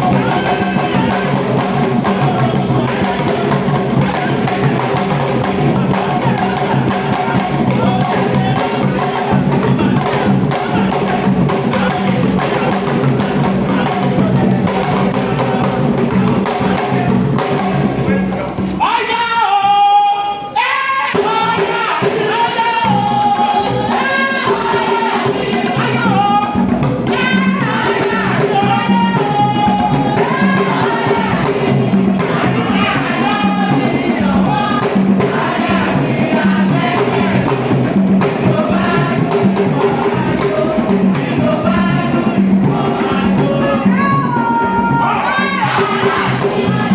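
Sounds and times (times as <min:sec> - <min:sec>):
rattling percussion: 0:00.0 - 0:18.8, 0:21.2 - 0:46.9
drum rhythm: 0:00.0 - 0:18.9, 0:21.1 - 0:46.9
voices singing together: 0:00.0 - 0:46.9.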